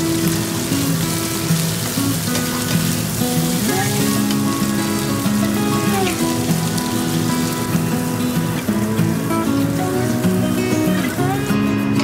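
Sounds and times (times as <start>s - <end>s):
food sizzling in a wok: 0.0s - 12.0s
slow background music: 0.0s - 12.0s.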